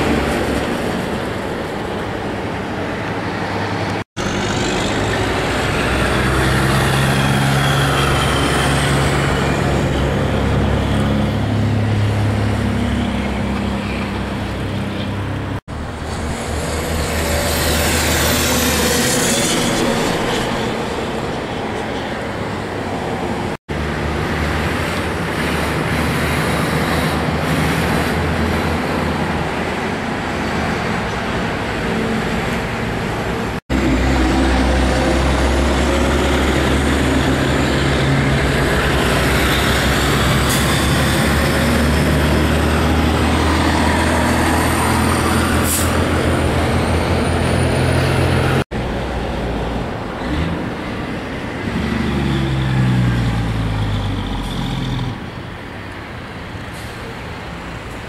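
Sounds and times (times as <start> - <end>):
highway traffic passing: 0.0 - 58.0
truck diesel engine driving by: 0.0 - 58.0.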